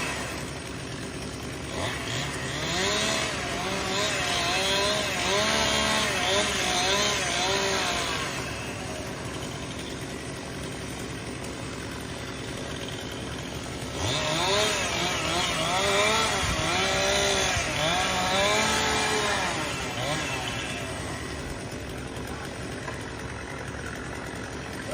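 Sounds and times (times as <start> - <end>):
chainsaw engine revving: 0.0 - 24.9.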